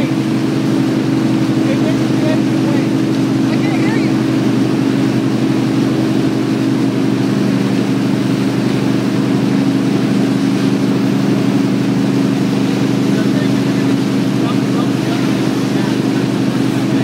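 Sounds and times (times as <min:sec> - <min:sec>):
churning wake rushing: 0:00.0 - 0:17.0
motorboat engine droning: 0:00.0 - 0:17.0.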